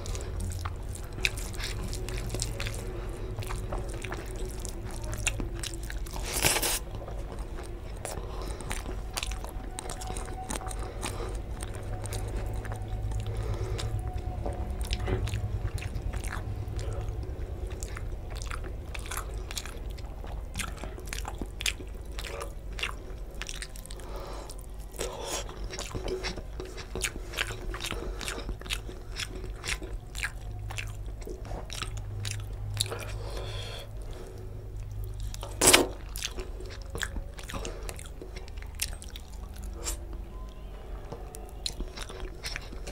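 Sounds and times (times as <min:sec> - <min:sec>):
chewing food: 0:00.0 - 0:42.9.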